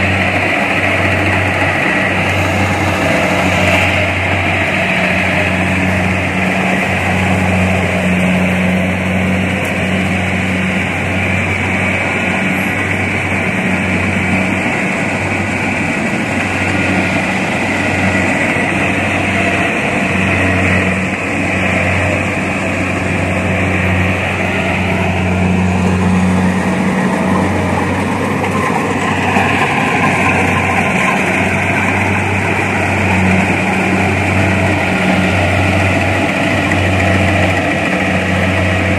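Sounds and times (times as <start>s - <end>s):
combine harvester engine drone: 0.0s - 38.9s
machinery rushing: 0.0s - 38.9s.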